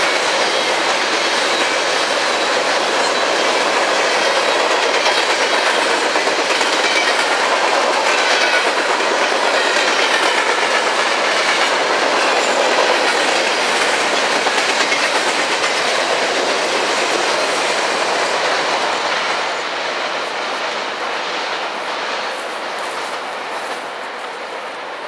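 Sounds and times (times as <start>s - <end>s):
train wheels rolling on rails: 0.0s - 25.0s.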